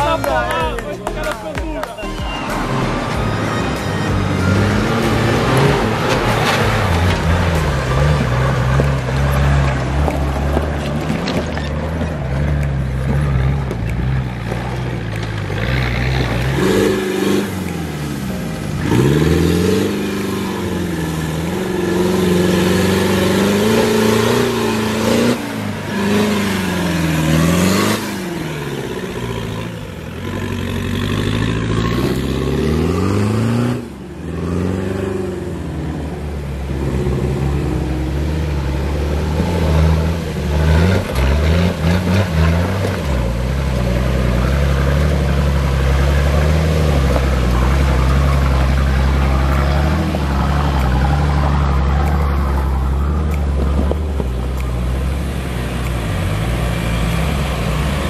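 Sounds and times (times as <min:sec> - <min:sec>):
off-road engines revving: 0:00.0 - 0:58.0.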